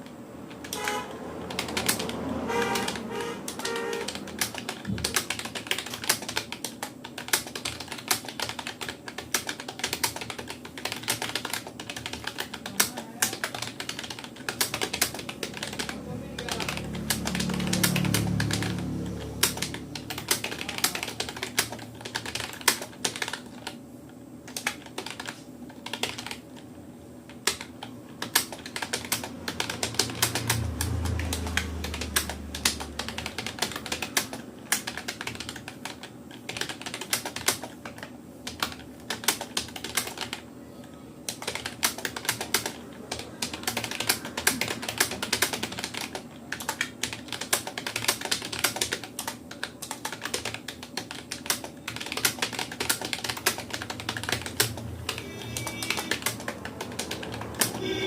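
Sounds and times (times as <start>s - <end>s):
fast keyboard typing: 0.0s - 23.8s, 24.4s - 58.0s.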